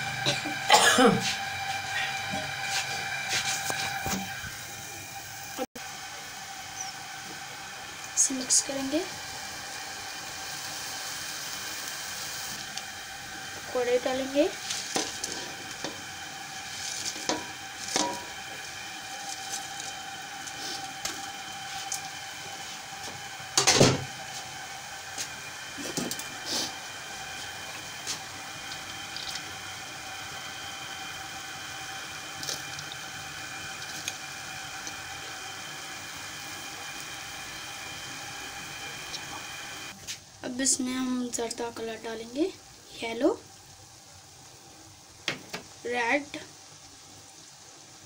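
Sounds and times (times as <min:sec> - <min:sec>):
background hum: 0:00.0 - 0:47.9.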